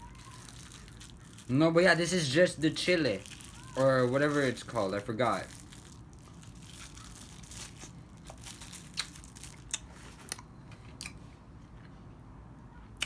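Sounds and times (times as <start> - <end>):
person chewing candy: 0.0 - 11.2.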